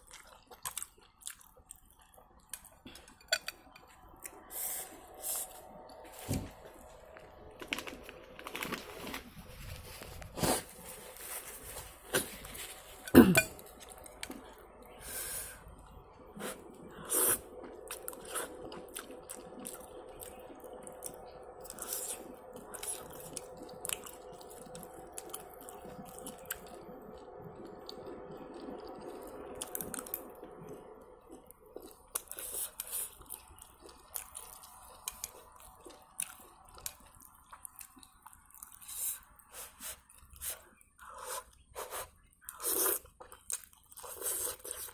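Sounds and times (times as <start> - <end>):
person chewing noodles: 0.0 - 9.2, 12.1 - 44.9
faint steady hum: 0.0 - 44.9.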